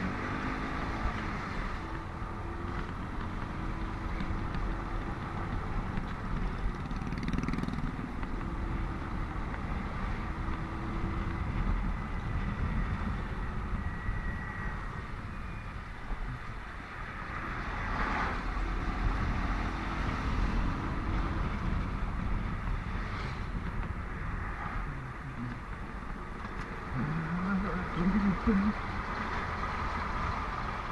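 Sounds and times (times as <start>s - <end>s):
motorcycle engine rumble: 0.0s - 30.9s
other vehicles passing: 0.0s - 30.9s.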